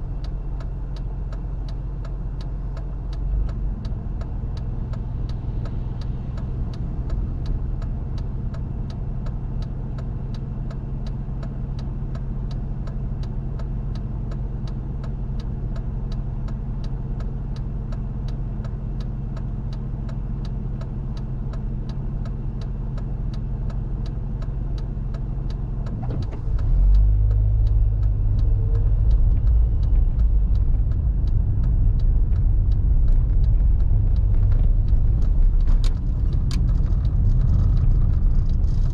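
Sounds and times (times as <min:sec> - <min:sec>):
car engine running: 0:00.0 - 0:38.9
turn signal clicking: 0:00.1 - 0:38.9.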